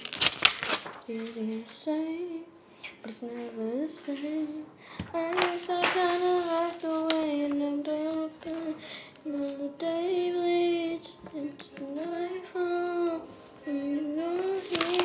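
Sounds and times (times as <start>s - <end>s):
girl singing unaccompanied: 0.9s - 15.0s.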